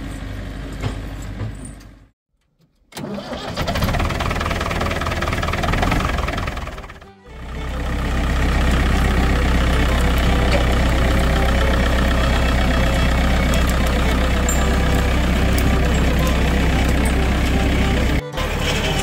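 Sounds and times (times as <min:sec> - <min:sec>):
tractor diesel engine running: 0:00.0 - 0:02.0, 0:03.0 - 0:19.0.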